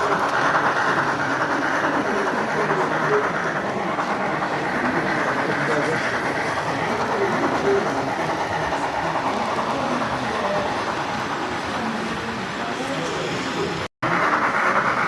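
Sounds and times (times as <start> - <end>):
hum of the hall: 0.0 - 15.0
model train wheels rumbling on track: 0.0 - 15.0.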